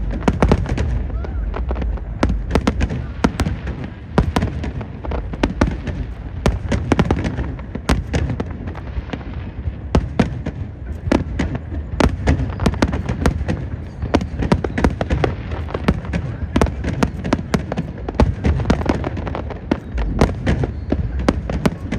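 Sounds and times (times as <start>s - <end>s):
fireworks bangs and cracks: 0.0s - 21.9s.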